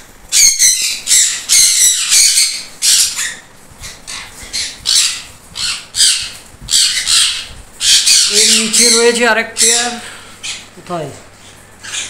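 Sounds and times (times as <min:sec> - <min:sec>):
parrots screeching: 0:00.3 - 0:10.8, 0:11.5 - 0:12.0.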